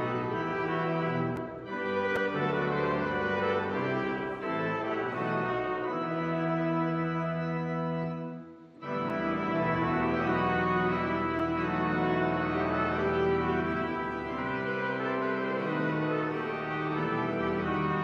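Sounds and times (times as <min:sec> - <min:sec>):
pipe organ playing a hymn: 0:00.0 - 0:18.0.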